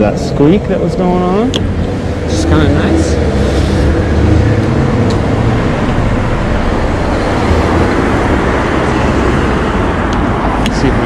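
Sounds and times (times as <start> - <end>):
tyre noise on road: 1.3 - 11.0.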